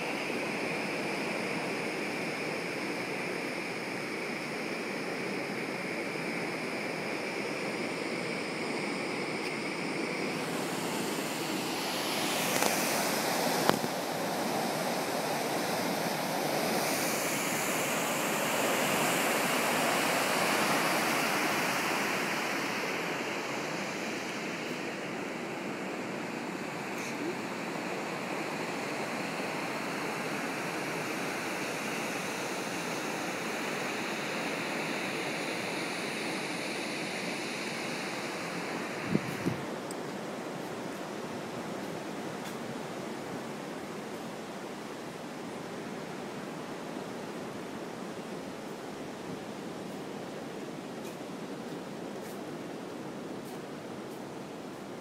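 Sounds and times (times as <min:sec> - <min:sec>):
wind on open deck: 0:00.0 - 0:55.0
ship wake rushing: 0:09.2 - 0:55.0.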